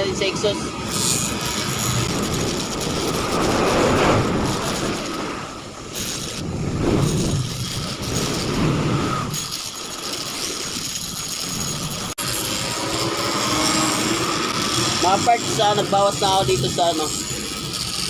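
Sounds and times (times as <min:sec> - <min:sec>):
rotary grinder grinding metal: 0:00.0 - 0:18.0.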